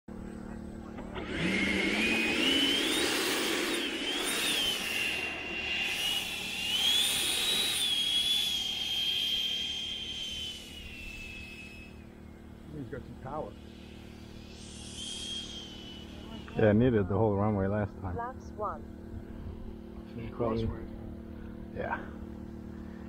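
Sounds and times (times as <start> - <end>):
electric ducted fan whining: 0.1 - 23.0.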